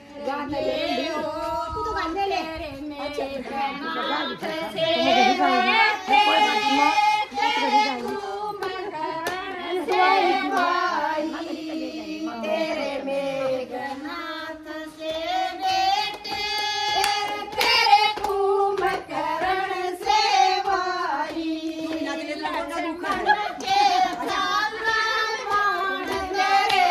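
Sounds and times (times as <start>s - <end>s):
women singing a folk song: 0.0s - 26.9s.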